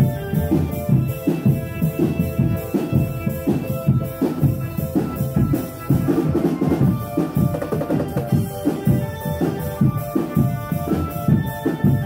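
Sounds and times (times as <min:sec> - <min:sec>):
held melodic line: 0:00.0 - 0:12.0
marching drums beating: 0:00.0 - 0:12.0.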